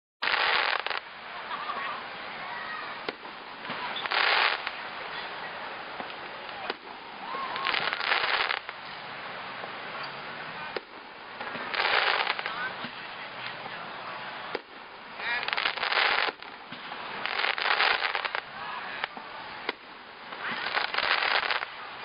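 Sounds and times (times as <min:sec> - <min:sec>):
fireworks bangs: 0:00.2 - 0:22.0
fireworks crackling: 0:00.2 - 0:22.0.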